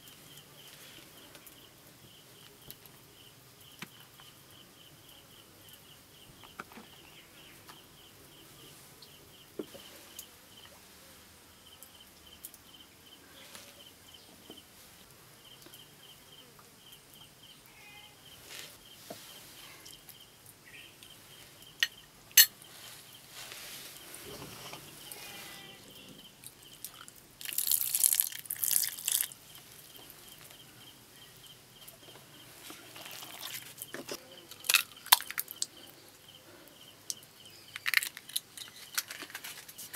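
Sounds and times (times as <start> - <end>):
cricket chirping: 0.0 - 10.8, 11.6 - 14.7, 15.3 - 39.6.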